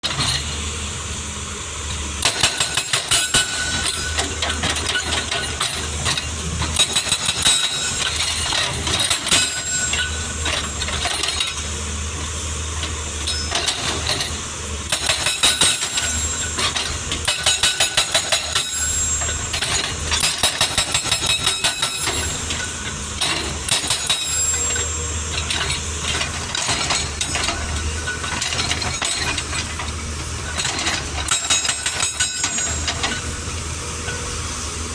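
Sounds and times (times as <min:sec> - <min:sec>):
hydraulic rock breaker hammering: 0:02.2 - 0:11.7, 0:12.3 - 0:34.5
diesel engine running: 0:03.4 - 0:34.9.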